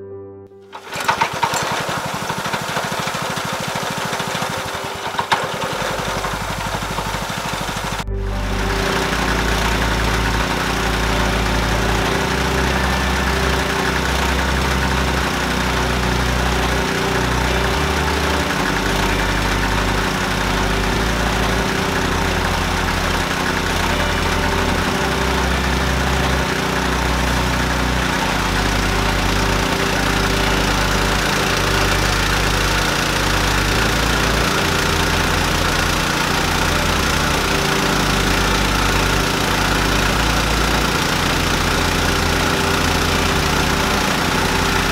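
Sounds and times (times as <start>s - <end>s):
machine engine drone: 0.6s - 44.9s.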